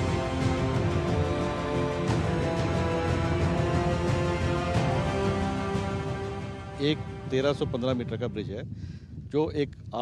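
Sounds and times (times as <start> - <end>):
background theme music: 0.0 - 8.5.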